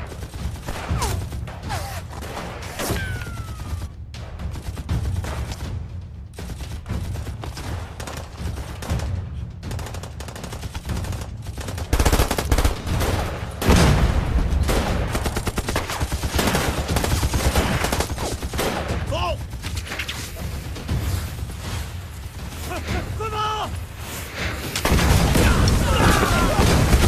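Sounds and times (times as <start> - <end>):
rifle and machine-gun fire: 0.0 - 23.2, 24.6 - 27.0.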